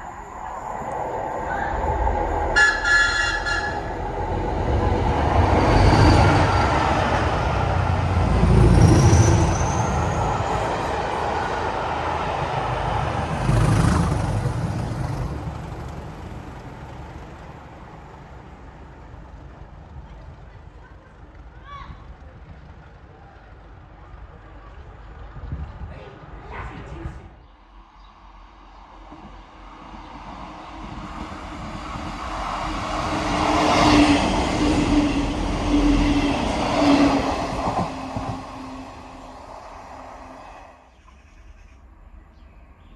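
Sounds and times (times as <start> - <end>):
passing train running noise: 0.0 - 42.9.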